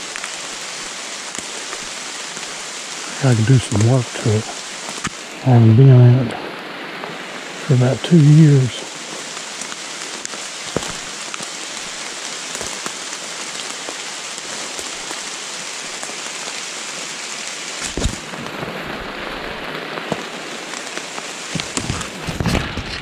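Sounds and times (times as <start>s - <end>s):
rain on leaves: 0.0s - 23.0s.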